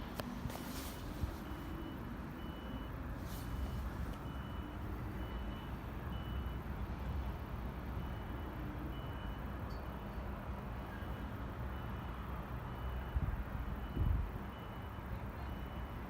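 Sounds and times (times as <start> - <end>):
reversing alarm beeping: 0.7 - 6.7, 8.0 - 16.0.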